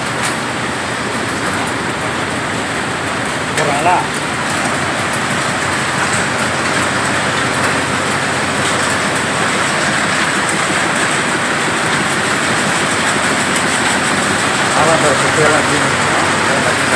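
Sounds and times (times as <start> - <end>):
grading machine running: 0.0 - 16.9
kernels rattling over sieve screens: 0.0 - 16.9.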